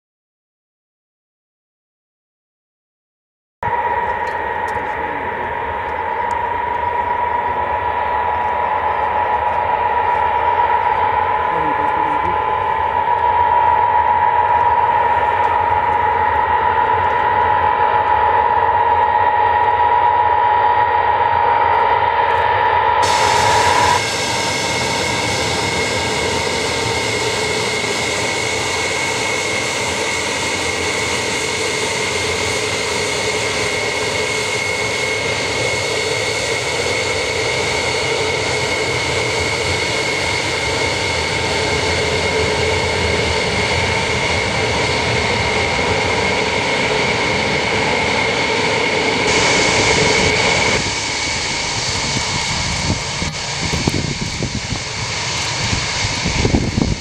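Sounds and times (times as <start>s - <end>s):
high engine whine: 3.6s - 57.0s
jet engines roaring: 3.6s - 57.0s.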